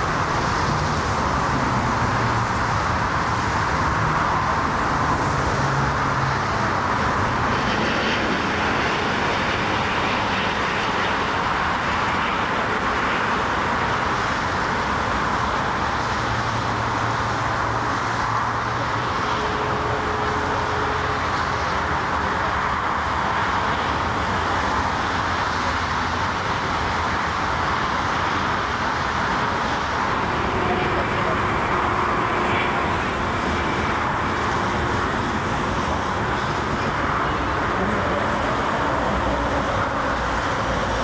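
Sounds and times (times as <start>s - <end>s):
jet engines roaring: 0.0s - 41.0s
road traffic noise: 0.0s - 41.0s.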